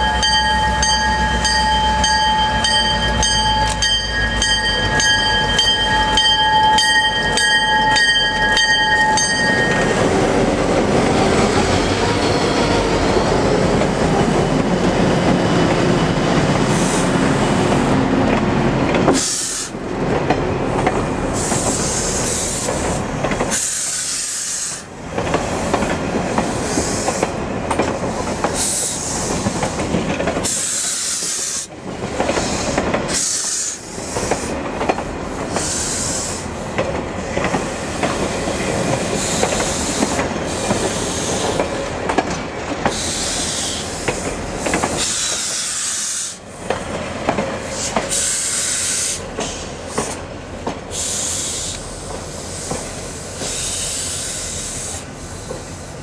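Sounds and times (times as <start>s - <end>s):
train rumble and hiss: 0.0s - 56.0s
train wheels clicking over rail joints: 0.2s - 56.0s.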